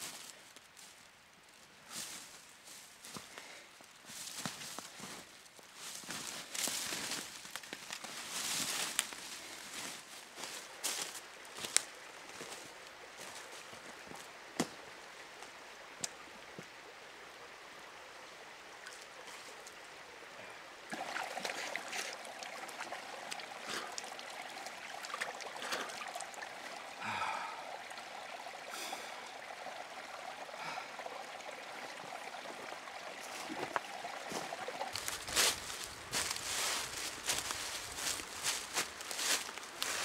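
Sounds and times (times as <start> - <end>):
stream trickling and gurgling: 0.0 - 40.0.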